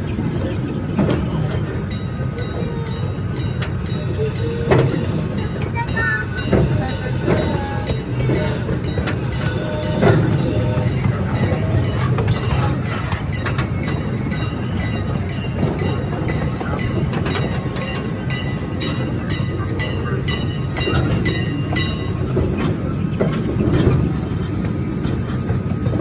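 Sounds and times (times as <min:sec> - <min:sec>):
train rumbling along track: 0:00.0 - 0:26.0
wheels clacking over rail joints: 0:00.0 - 0:26.0.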